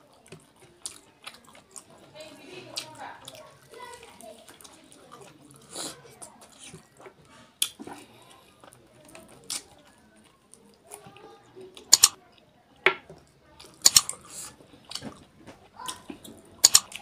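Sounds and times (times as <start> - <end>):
chewing with wet smacking: 0.0 - 12.5, 13.2 - 17.0.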